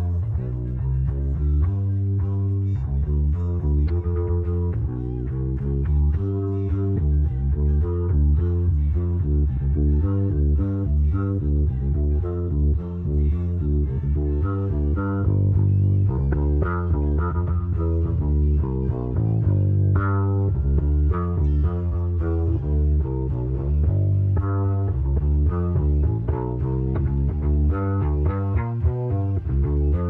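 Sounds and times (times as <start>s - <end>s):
electric bass guitar line: 0.0s - 30.0s.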